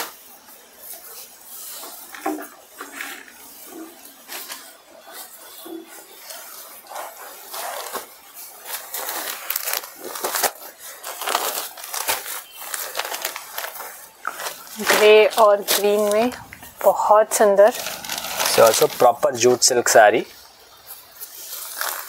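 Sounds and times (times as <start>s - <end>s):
stiff fabric rustling: 0.0s - 22.0s.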